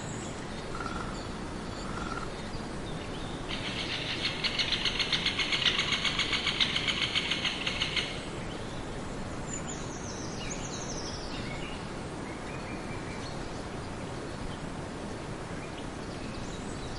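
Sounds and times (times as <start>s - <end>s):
outdoor background noise: 0.0s - 16.9s.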